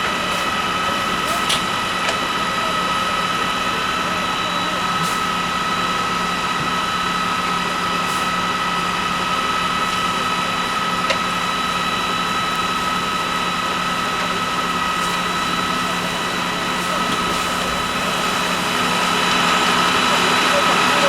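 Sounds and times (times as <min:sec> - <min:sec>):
mechanical engine drone: 0:00.0 - 0:21.0.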